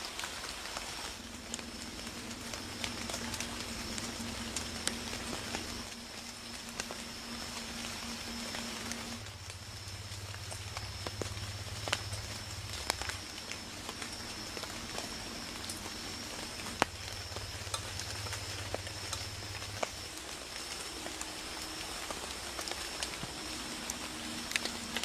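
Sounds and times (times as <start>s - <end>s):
sharp crackles: 0.0s - 25.0s
steady hiss: 0.0s - 25.0s
low hum: 0.8s - 25.0s.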